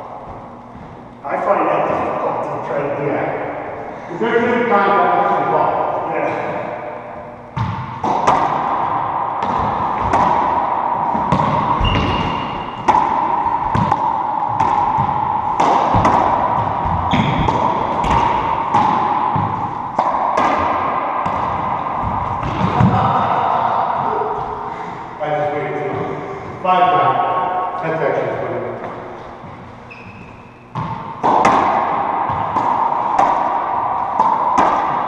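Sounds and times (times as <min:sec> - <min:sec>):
racquetball hitting racquets and walls: 0:00.0 - 0:35.0.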